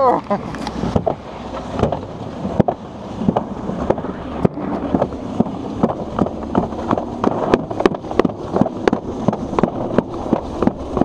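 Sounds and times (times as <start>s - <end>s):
sled rumbling and rattling: 0.0s - 11.0s
wind buffeting microphone: 0.3s - 11.0s
sharp knocks: 1.8s - 11.0s.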